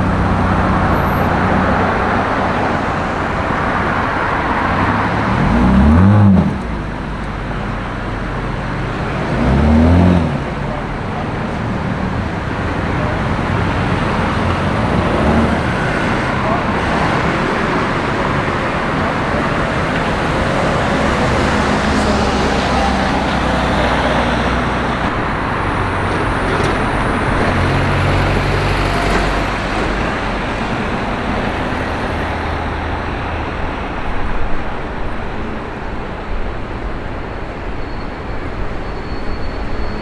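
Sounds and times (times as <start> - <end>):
deep engine rumble: 0.0 - 37.8
city street traffic: 0.0 - 40.0.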